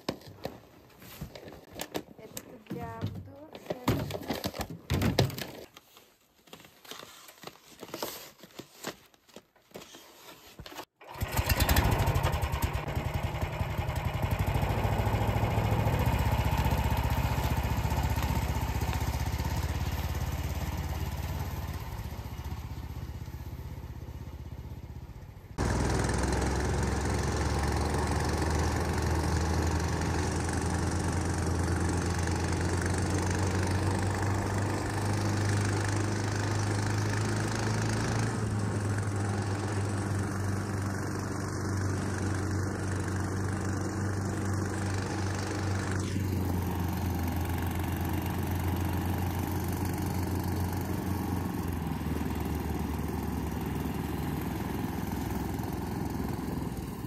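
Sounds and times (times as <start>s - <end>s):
engine humming: 11.0s - 57.0s.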